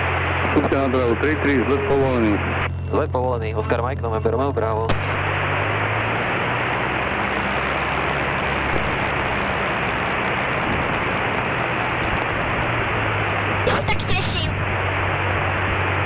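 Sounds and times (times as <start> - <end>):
plane engine drone in cabin: 0.0 - 16.0.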